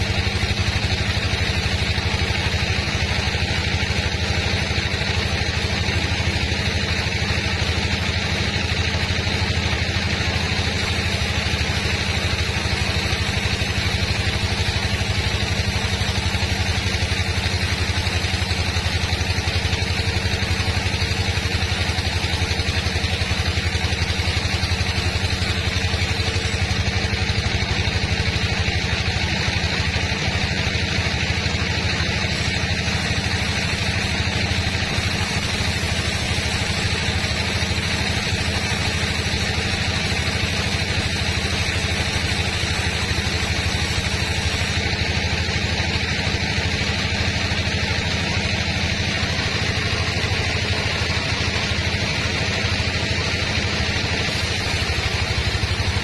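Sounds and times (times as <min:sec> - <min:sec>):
sawmill machinery engine drone: 0:00.0 - 0:56.0.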